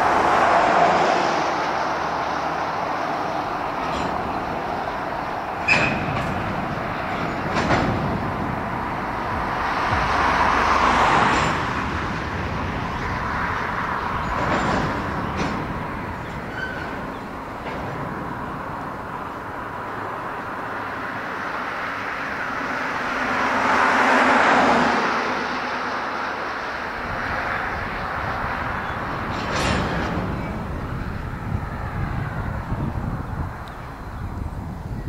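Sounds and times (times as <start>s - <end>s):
car passing on road: 0.0s - 35.0s
freight train wheels rumbling: 0.0s - 35.0s.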